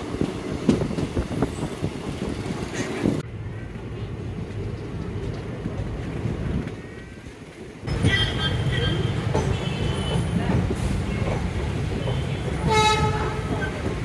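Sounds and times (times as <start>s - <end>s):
train rumbling and rattling: 0.0s - 14.0s.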